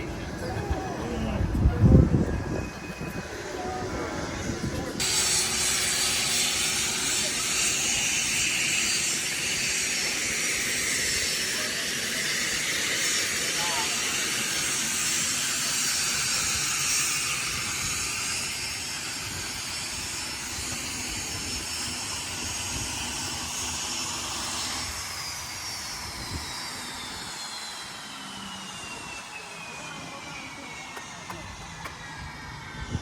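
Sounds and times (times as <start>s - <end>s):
aircraft turbine engines whining: 0.0s - 33.0s
engine whine sliding down: 0.0s - 33.0s.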